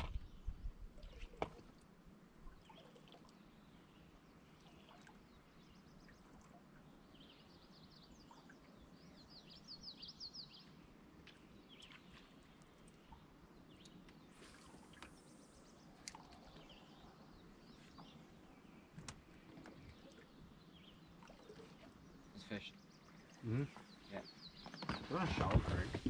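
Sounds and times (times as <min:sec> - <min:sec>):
faint songbird calls: 0:02.4 - 0:26.0.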